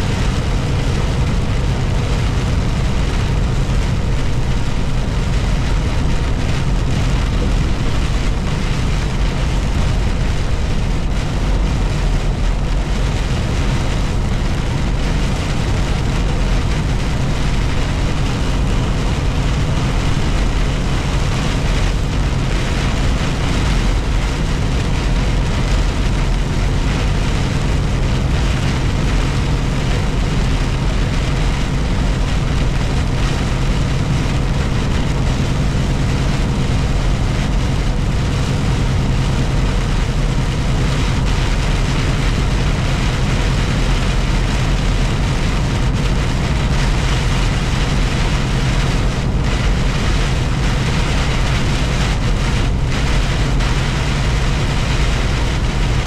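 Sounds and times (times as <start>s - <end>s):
continuous low hum: 0.0s - 56.0s
heavy rain pouring: 0.0s - 56.0s.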